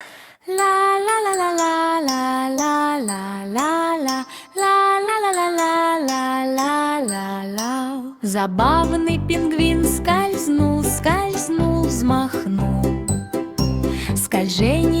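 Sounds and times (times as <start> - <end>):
high voice singing: 0.5 - 12.7.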